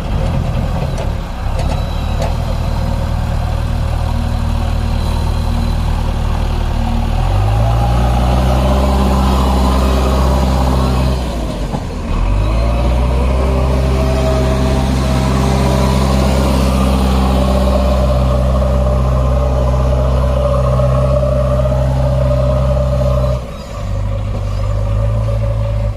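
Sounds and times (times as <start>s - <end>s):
heavy diesel engine under load: 0.0s - 25.9s.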